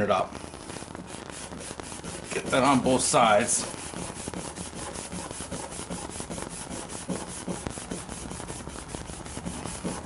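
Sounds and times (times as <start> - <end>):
abrasive cloth scrubbing plastic: 0.0 - 10.0.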